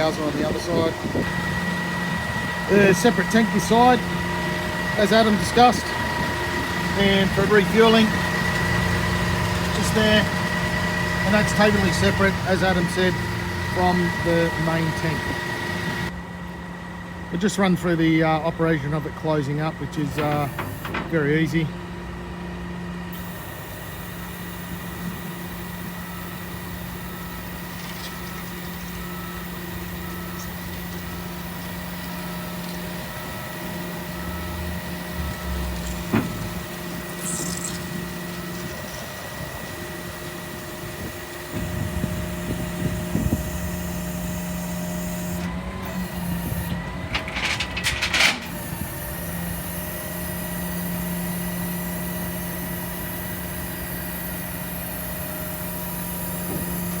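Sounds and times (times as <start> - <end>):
drive motor humming: 0.0 - 17.5, 18.3 - 57.0.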